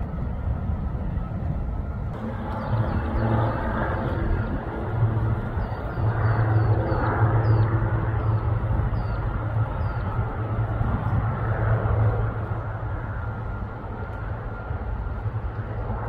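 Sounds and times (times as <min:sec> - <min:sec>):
light aircraft engine droning: 0:00.0 - 0:16.0.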